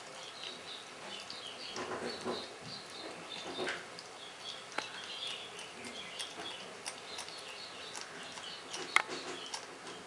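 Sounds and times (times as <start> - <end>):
porcupine chewing leaves: 0.0 - 10.0
faint high chirping: 0.2 - 10.0.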